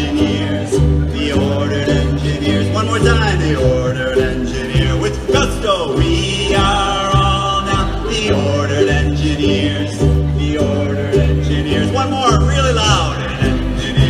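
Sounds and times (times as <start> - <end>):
person singing: 0.0 - 14.0
strummed string instrument: 0.0 - 14.0
upright bass plucking: 0.0 - 14.0.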